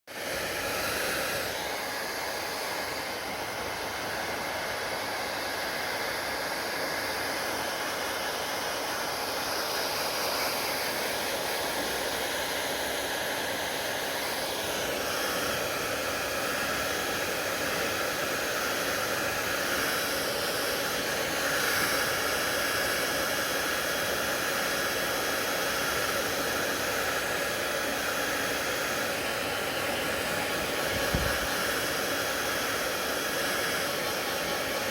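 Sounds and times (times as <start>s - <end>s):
hair dryer blowing: 0.1s - 34.9s.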